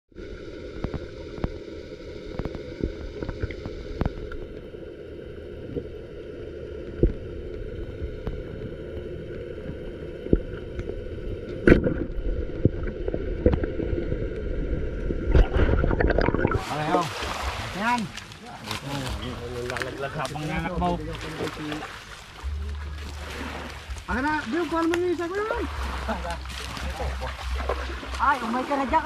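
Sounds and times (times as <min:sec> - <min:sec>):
water around a boat: 0:00.1 - 0:29.0.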